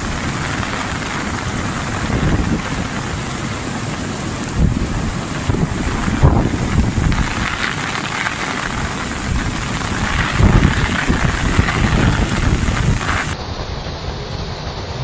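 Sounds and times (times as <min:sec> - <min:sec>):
heavy rain: 0:00.0 - 0:15.0
wind buffeting microphone: 0:00.0 - 0:15.0.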